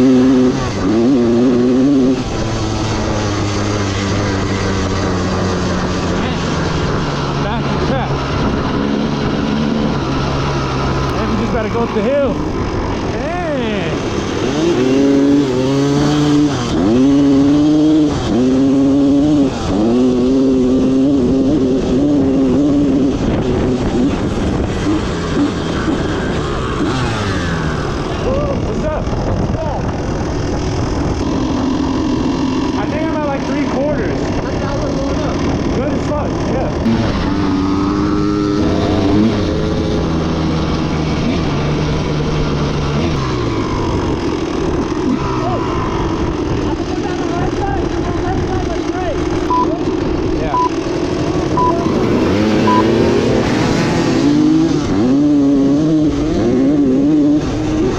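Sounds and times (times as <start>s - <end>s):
dirt bike engine running: 0.0s - 57.9s.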